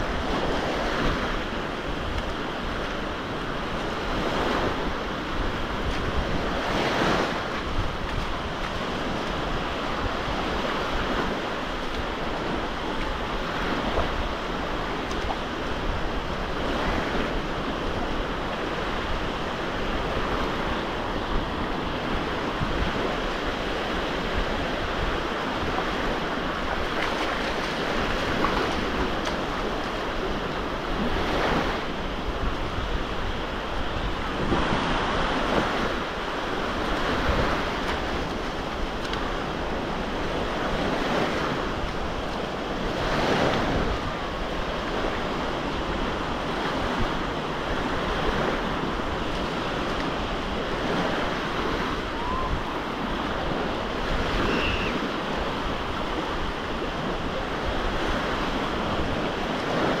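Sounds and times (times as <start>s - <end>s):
surf washing onto beach: 0.0s - 60.0s
wind rumble on microphone: 0.0s - 60.0s.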